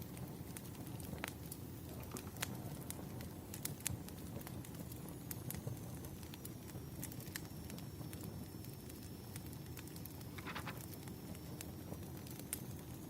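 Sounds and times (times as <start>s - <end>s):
burning logs rumbling: 0.0s - 13.0s
fire hissing: 0.0s - 13.0s
wood fire crackling: 0.0s - 13.0s.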